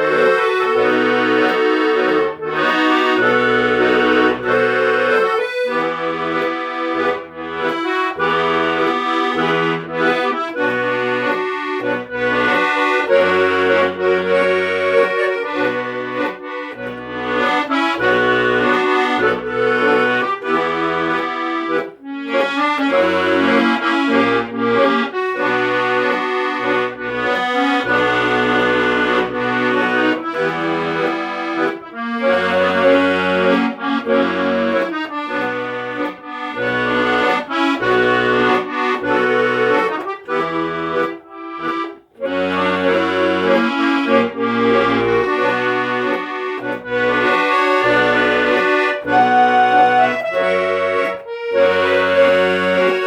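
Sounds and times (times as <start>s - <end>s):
accordion music: 0.0s - 53.0s.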